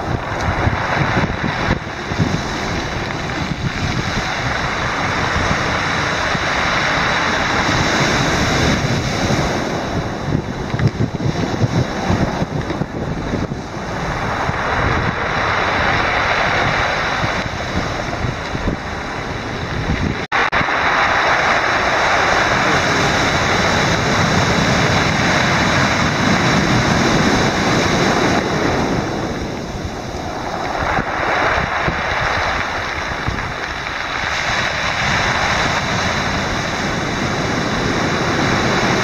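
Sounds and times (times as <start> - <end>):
surf on pebble beach: 0.0 - 39.0
wind buffeting microphone: 0.0 - 39.0.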